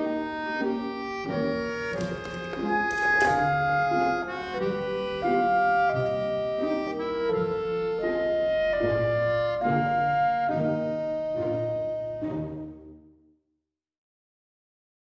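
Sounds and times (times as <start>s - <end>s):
gentle reedy instrumental melody: 0.0s - 12.9s.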